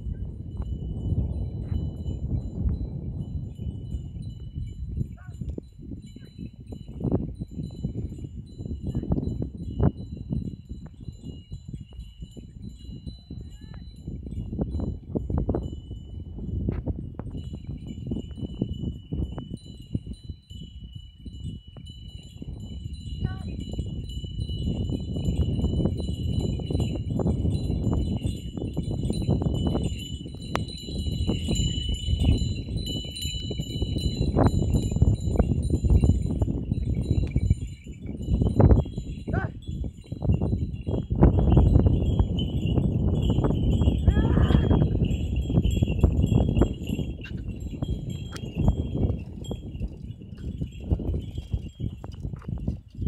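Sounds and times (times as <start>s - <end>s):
small bells jingling: 0.0s - 53.0s.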